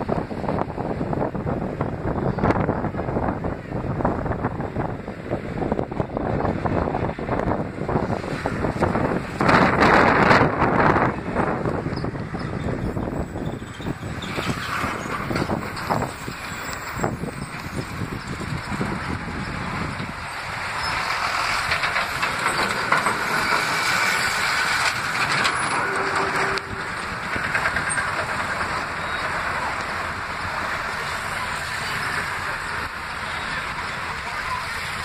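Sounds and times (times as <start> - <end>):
truck passing: 0.0 - 35.0
vehicle engine and road noise: 0.0 - 35.0.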